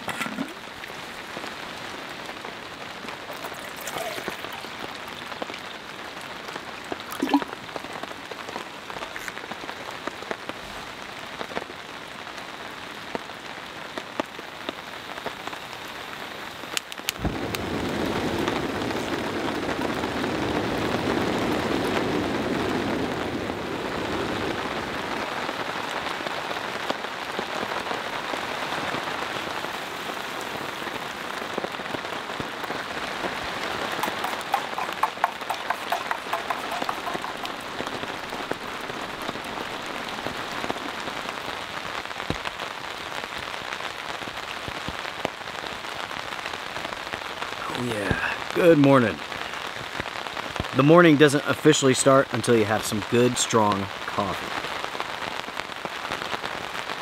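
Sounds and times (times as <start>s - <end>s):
rain pattering on a tarp: 0.0s - 57.0s.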